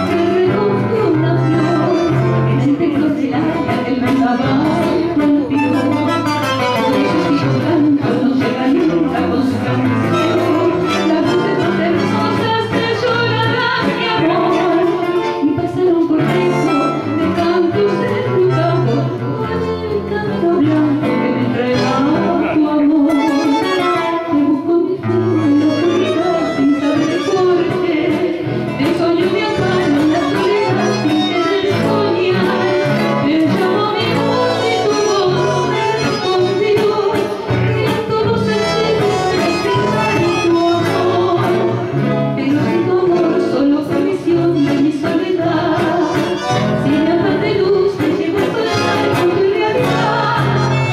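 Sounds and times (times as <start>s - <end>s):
guitar accompaniment: 0.0s - 50.9s
woman singing into a microphone: 0.0s - 50.9s.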